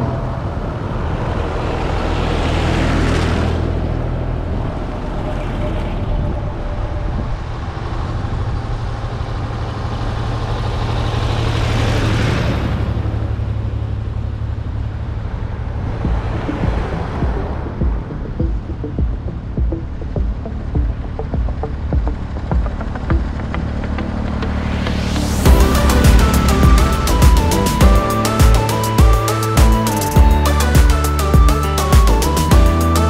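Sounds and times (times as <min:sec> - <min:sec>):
tractor engines running: 0:00.0 - 0:33.0.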